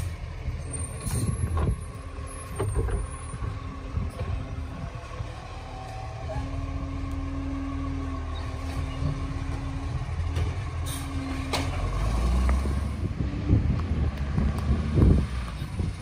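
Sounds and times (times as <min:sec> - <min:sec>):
garbage truck engine rumbling: 0:00.0 - 0:16.0.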